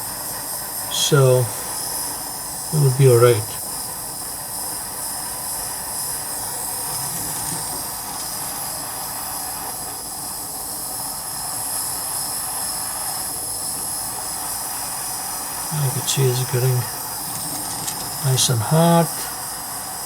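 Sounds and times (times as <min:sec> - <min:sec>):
soldering torch flame hissing: 0:00.0 - 0:20.0.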